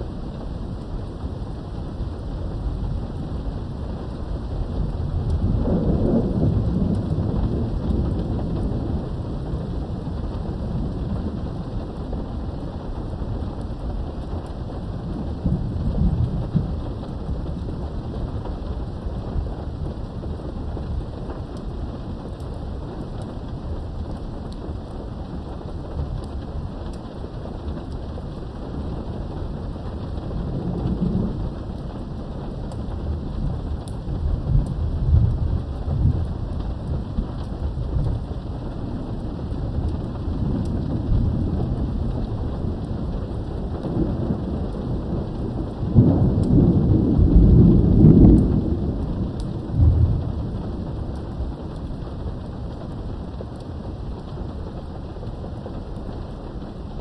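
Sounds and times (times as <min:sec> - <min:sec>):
steady rain: 0:00.0 - 0:57.0
thunder rumbling: 0:00.0 - 0:57.0.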